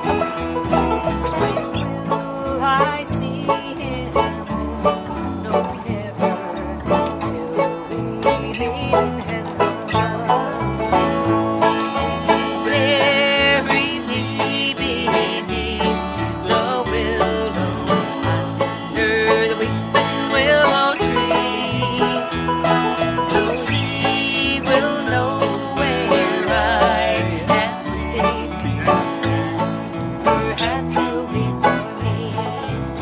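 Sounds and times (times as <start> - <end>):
acoustic guitar: 0.0 - 33.0
banjo picking: 0.0 - 33.0
walking bass line: 0.0 - 33.0.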